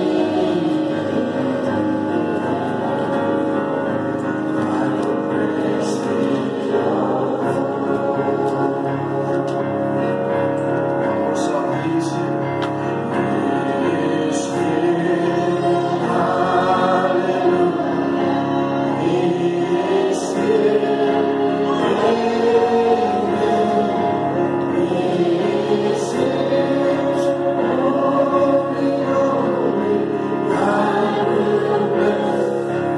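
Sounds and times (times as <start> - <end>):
congregation singing: 0.0 - 32.9.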